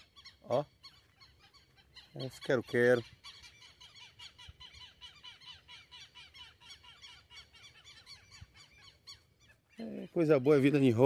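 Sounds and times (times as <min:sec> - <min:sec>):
bird calling harsh repeated notes: 0:00.0 - 0:11.0.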